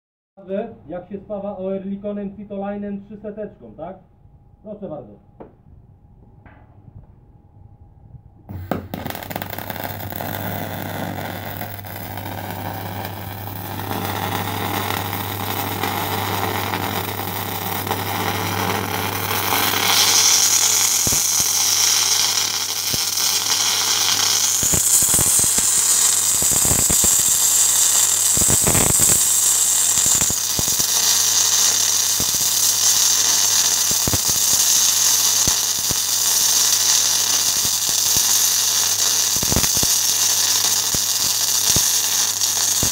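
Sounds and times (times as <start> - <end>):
spatter pops: 8.5 - 42.9
welding arc crackling hiss: 8.5 - 42.9.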